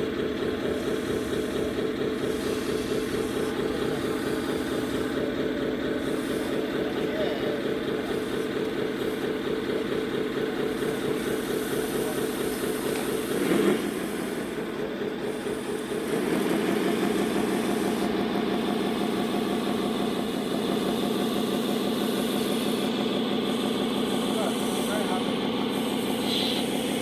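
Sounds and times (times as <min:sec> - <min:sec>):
idling truck engine from speaker: 0:00.0 - 0:27.0.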